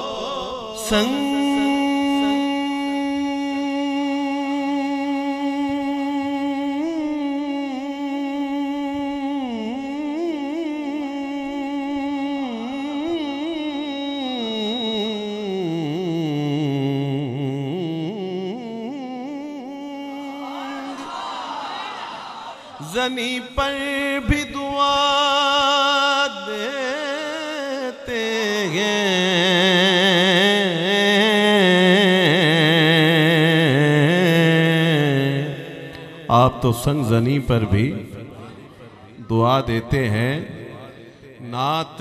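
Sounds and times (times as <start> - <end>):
man singing unaccompanied: 0.0 - 20.6, 22.8 - 42.0.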